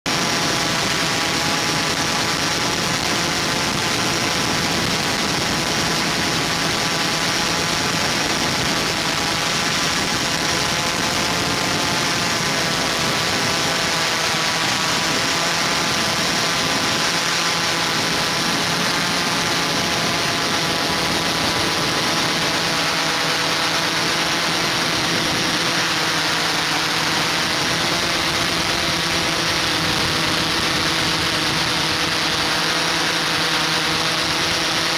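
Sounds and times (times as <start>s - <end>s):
drone motors whining: 0.1s - 34.9s.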